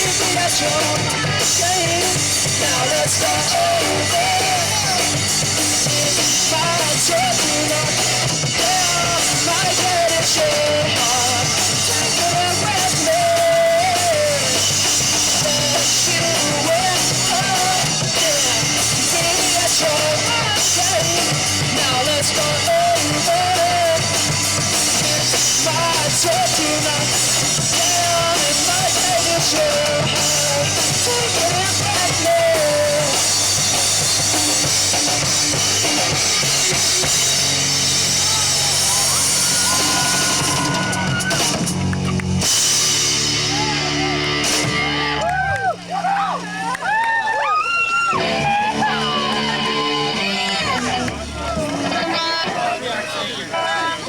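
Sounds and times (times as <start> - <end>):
drum kit beat: 0.0 - 46.6
rock band playing live: 0.0 - 46.7, 47.5 - 52.9.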